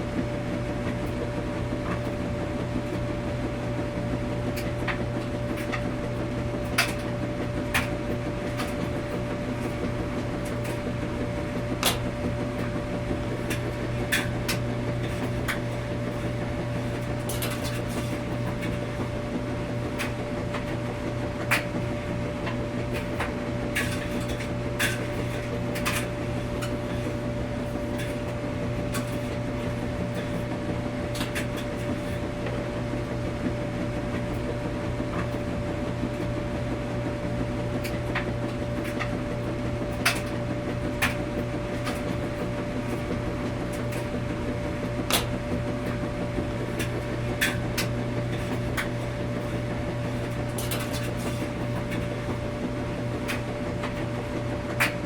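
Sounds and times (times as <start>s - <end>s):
washing machines humming: 0.0s - 55.0s.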